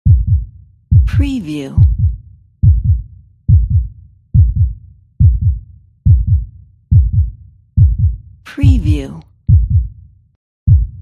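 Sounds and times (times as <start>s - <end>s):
heartbeat thumps: 0.0s - 10.0s, 10.7s - 11.0s.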